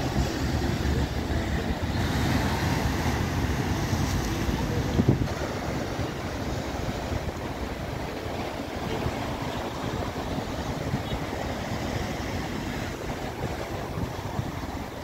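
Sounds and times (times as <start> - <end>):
choppy sea waves: 0.0 - 15.0
wind buffeting microphone: 0.0 - 15.0.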